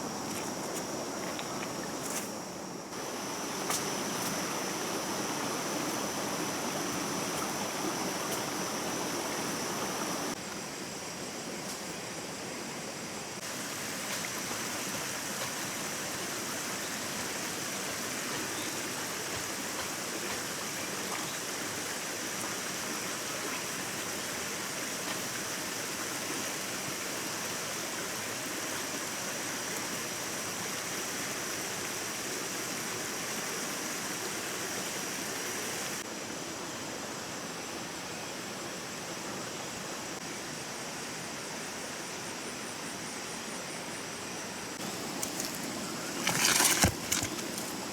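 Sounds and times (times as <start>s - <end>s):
stream water running: 0.0s - 43.0s, 43.6s - 47.9s.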